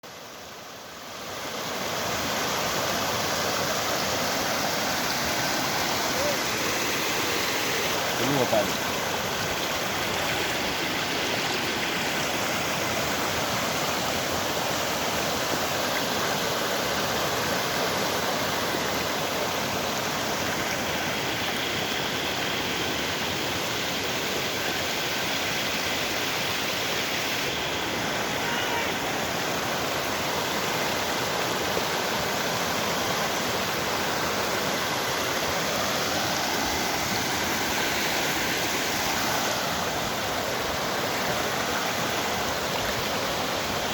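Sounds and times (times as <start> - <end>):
floodwater rushing: 0.0 - 43.9.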